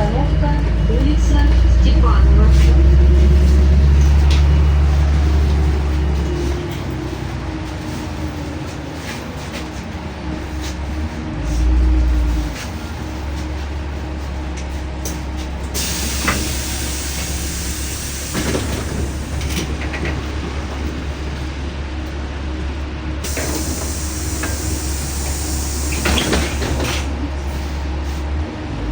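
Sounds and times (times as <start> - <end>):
bus engine and road drone: 0.0 - 28.9.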